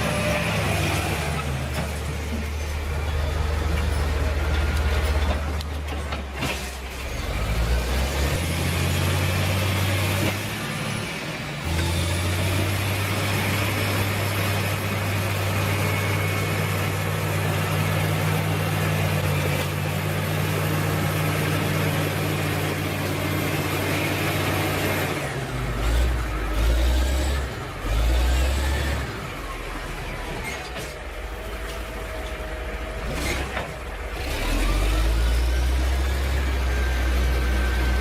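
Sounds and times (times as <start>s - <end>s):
heavy vehicle engine humming: 0.0s - 38.0s.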